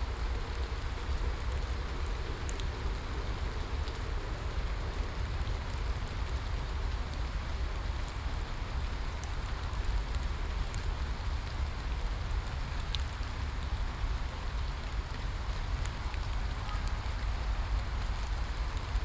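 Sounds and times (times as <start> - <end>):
sharp raindrop ticks: 0.0 - 19.0
steady rain falling: 0.0 - 19.0.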